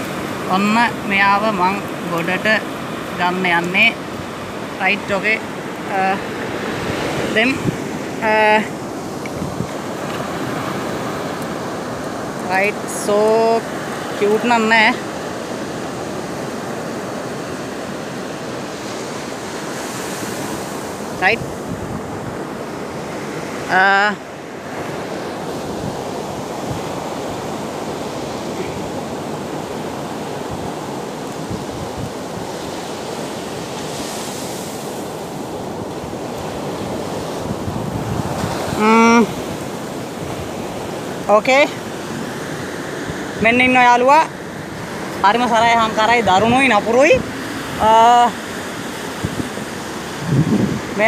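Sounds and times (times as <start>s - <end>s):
sea surf rushing: 0.0s - 51.0s
wind: 0.0s - 51.0s.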